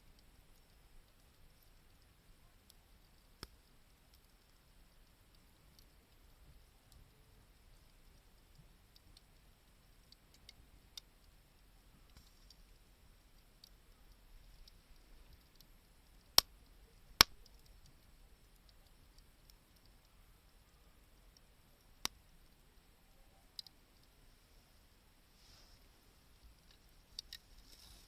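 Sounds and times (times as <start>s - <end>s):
fire popping: 0.0s - 24.2s, 25.3s - 28.0s
wood fire crackling: 0.0s - 28.0s.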